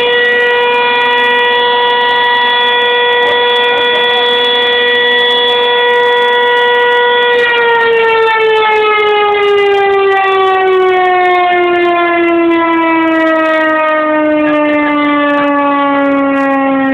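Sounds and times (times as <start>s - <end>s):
alarm siren wailing: 0.0s - 16.9s.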